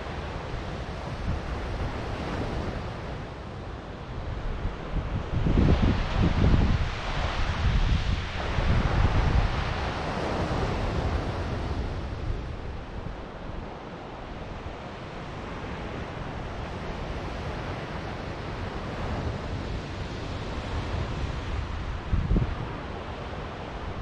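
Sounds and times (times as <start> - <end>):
ocean surf washing on beach: 0.0 - 24.0
wind rumbling on microphone: 0.0 - 24.0.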